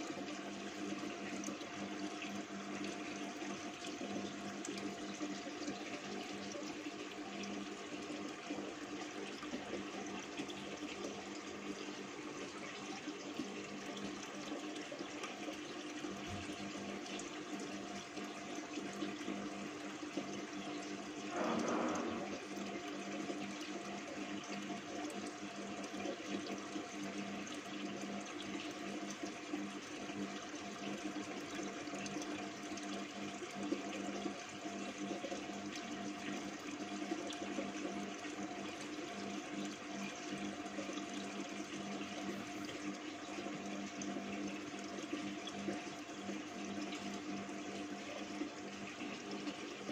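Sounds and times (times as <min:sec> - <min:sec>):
bubbling water rushing: 0:00.1 - 0:49.9.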